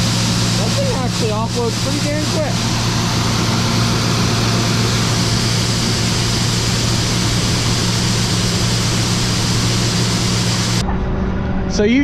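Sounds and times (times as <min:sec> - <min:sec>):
hiss of grain unloading: 0:00.0 - 0:10.8
combine engine drone: 0:00.0 - 0:11.9.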